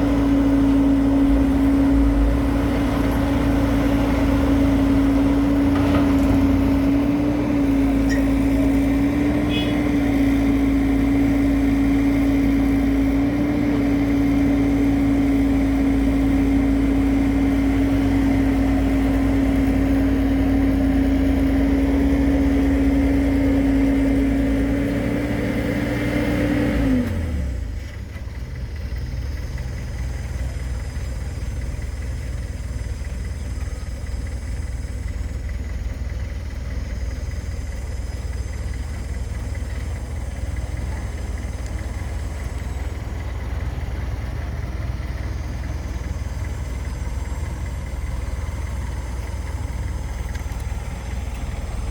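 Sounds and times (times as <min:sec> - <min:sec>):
excavator diesel engine: 0:00.0 - 0:51.9.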